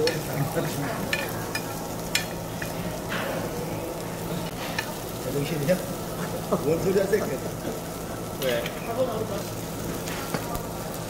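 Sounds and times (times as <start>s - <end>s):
food sizzling in metal pan: 0.0s - 11.0s.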